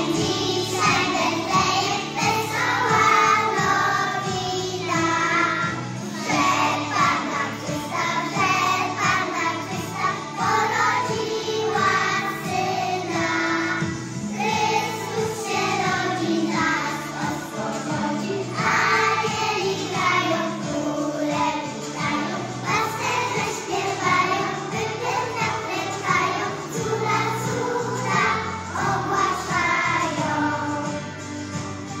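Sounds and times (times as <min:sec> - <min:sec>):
children singing: 0:00.0 - 0:31.3
instrumental accompaniment: 0:00.0 - 0:32.0.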